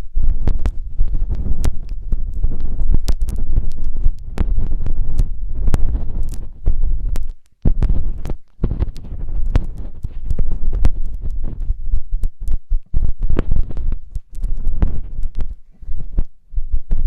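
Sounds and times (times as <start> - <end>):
rubbing against microphone: 0.0 - 17.0.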